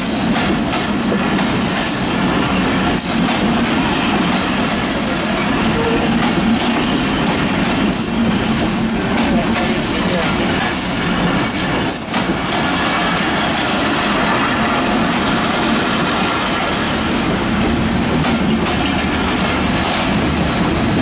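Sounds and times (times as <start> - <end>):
train wheels rumbling on rails: 0.0 - 21.0
clacks over rail joints: 0.2 - 21.0.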